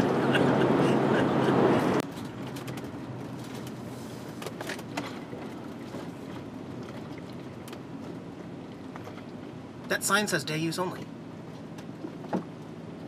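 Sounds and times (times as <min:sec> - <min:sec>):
engine hum: 0:00.0 - 0:13.0
road noise: 0:00.0 - 0:13.0.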